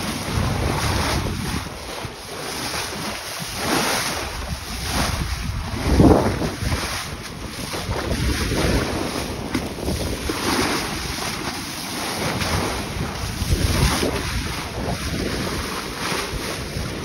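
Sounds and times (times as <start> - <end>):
water rushing along boat hull: 0.0 - 17.0
wind buffeting microphone: 0.0 - 17.0.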